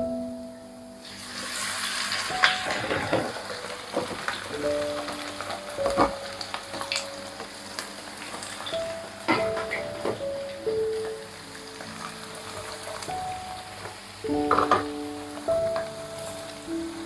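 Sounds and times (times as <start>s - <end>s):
soft piano music: 0.0s - 17.0s
food sizzling in hot oil: 1.0s - 17.0s.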